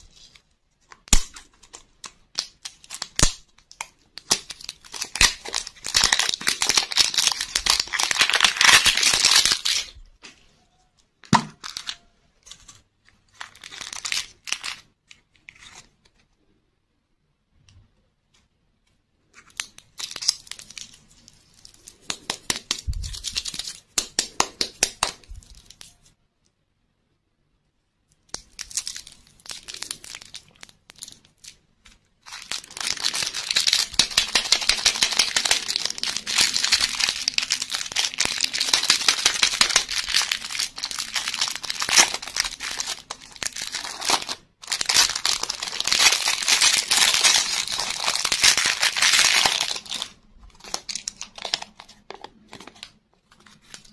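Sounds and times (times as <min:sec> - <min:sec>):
cellophane wrapper crinkling: 0:00.0 - 0:10.3, 0:11.2 - 0:16.2, 0:19.4 - 0:26.1, 0:28.3 - 0:53.9.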